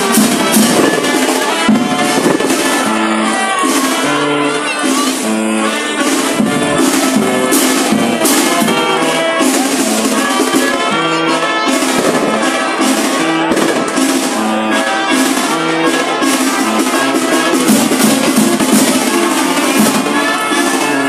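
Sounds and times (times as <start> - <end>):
brass band playing lively tune: 0.0 - 21.0.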